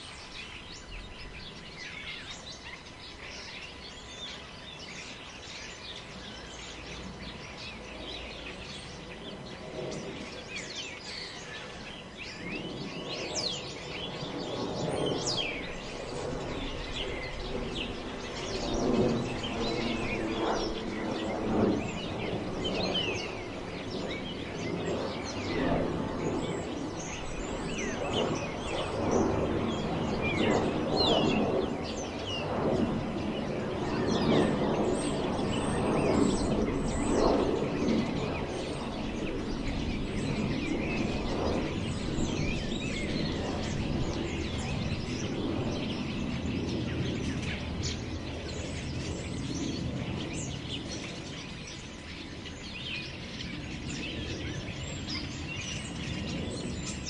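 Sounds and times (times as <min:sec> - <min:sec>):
small birds chirping: 0:00.0 - 0:57.0
wind through trees: 0:00.0 - 0:57.0.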